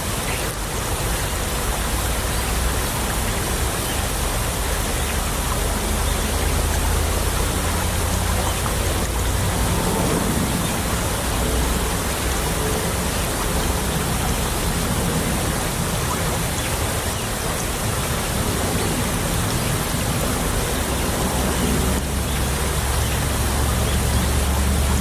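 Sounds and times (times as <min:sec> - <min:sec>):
stream babbling: 0:00.0 - 0:25.0.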